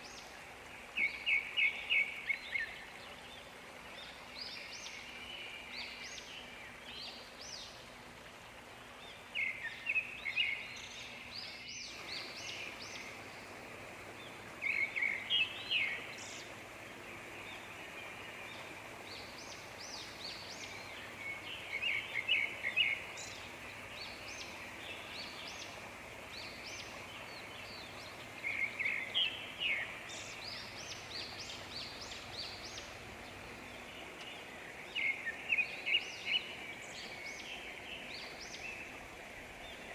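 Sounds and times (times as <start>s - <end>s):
songbird chirping: 0.0s - 39.9s
steady background hiss: 0.0s - 39.9s.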